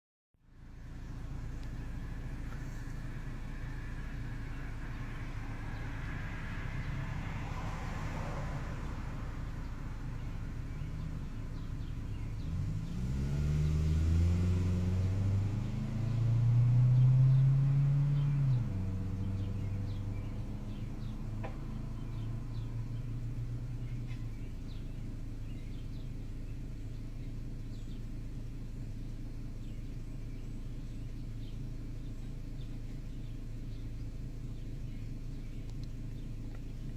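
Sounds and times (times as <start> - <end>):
background traffic rumble: 0.4 - 36.9
vehicle engine revving: 0.7 - 36.9.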